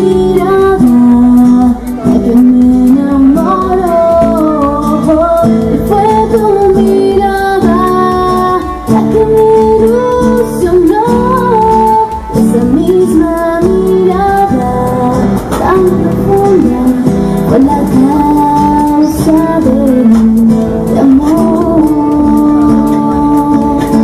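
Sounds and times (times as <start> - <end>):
instrumental accompaniment with beat: 0.0 - 24.0
woman singing into microphone: 0.0 - 24.0.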